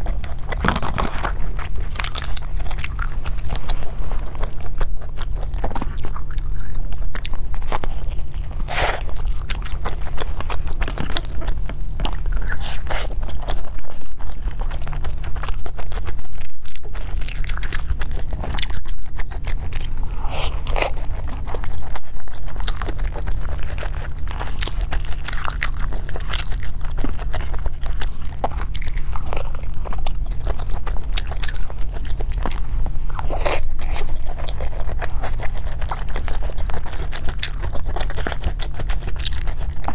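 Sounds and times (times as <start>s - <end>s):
chewing soft dumplings: 0.0s - 39.9s
steady low hum: 0.0s - 39.9s.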